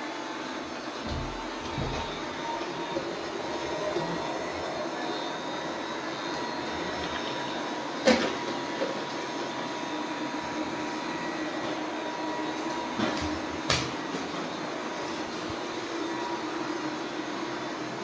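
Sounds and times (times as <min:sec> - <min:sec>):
robot vacuum cleaner whirring: 0:00.0 - 0:18.0.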